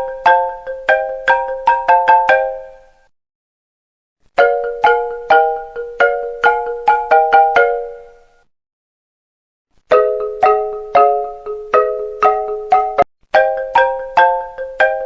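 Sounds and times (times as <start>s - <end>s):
marimba ringtone: 0.0s - 3.0s, 4.4s - 8.3s, 9.9s - 15.0s.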